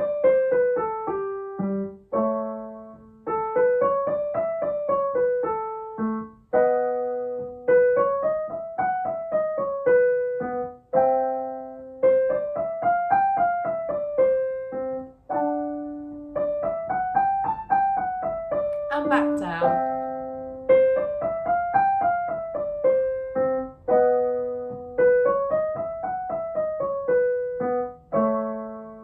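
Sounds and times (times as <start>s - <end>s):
piano playing warm-up scales: 0.0s - 29.0s.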